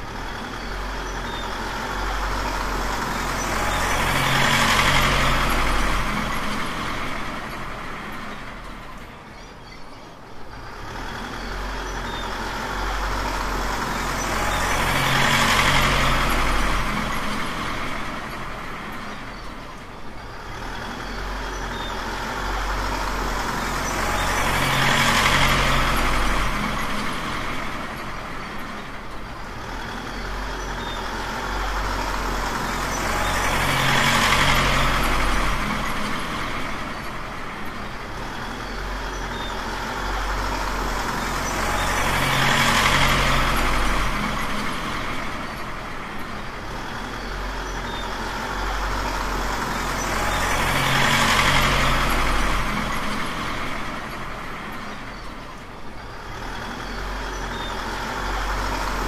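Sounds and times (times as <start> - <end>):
truck engine rumbling: 0.0 - 59.0.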